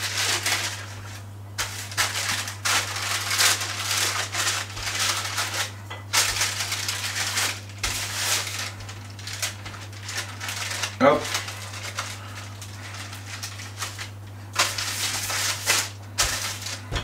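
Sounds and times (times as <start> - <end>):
paper rustling and crinkling: 0.0 - 17.0
rolling pin rolling dough: 0.0 - 17.0.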